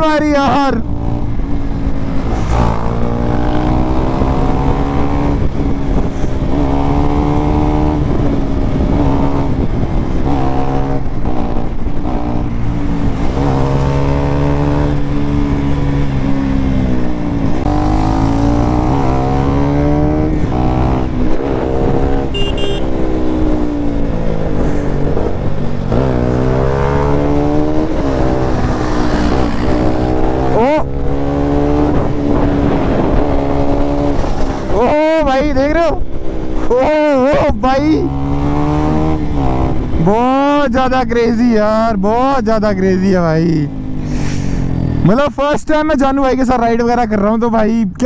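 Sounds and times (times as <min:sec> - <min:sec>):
motorcycle engine accelerating: 0:00.0 - 0:40.6
wind noise: 0:00.0 - 0:42.6.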